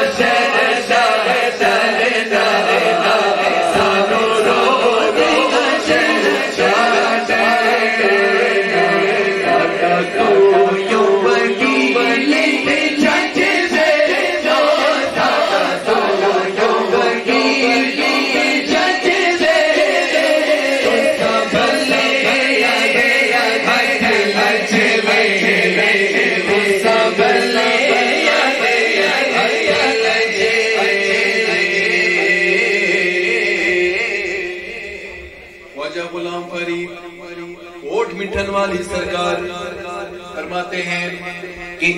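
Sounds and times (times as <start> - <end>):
men singing chant over loudspeaker: 0.0 - 41.9.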